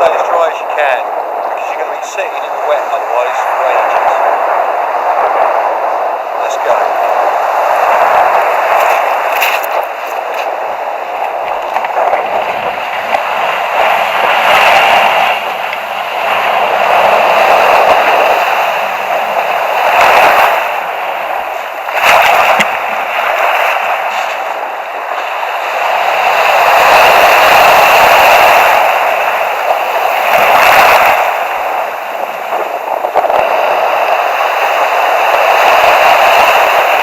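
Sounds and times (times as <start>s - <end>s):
waves breaking on shore: 0.0s - 37.0s.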